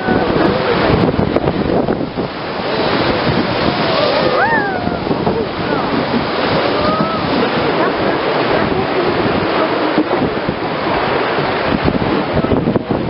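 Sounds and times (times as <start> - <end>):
river rapids roaring: 0.0 - 13.0
wind buffeting microphone: 0.0 - 13.0.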